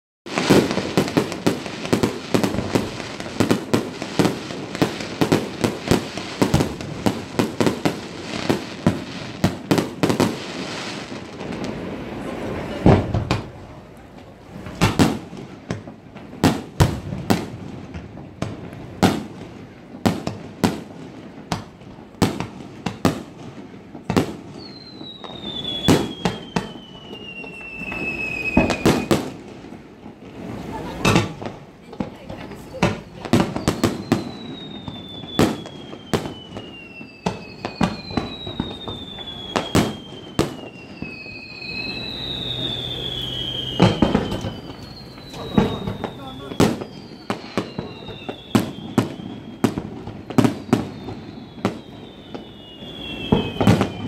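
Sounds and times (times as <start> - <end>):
falling firework whistle: 0.3 - 54.0
firework booms: 0.3 - 54.0
firework bursts and crackle: 0.3 - 54.0.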